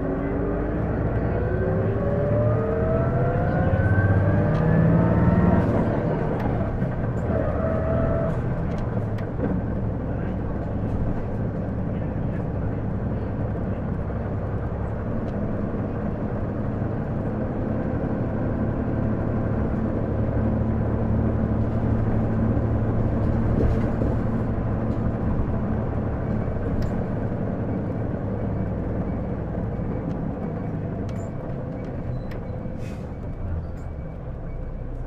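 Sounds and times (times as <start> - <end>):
bus engine drone: 0.0 - 35.0.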